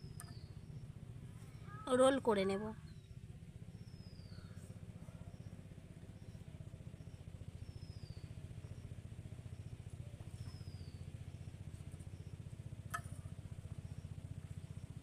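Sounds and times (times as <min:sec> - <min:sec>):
small engine throbbing: 0:00.0 - 0:15.0.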